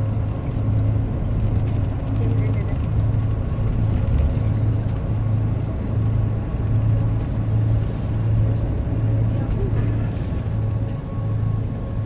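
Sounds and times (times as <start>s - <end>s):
engine drone: 0.0s - 12.0s
road rumble: 0.0s - 12.0s.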